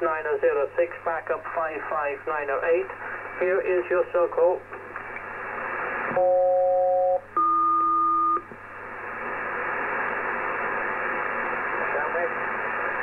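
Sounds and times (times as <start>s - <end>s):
shortwave radio hiss: 0.0s - 6.2s, 8.6s - 13.0s.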